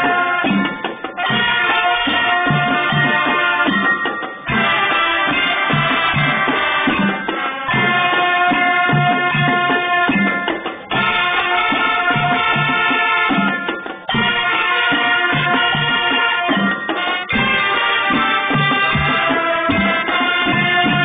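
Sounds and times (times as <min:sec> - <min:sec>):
marching band playing: 0:00.0 - 0:21.0
steady drum beat: 0:00.0 - 0:21.0.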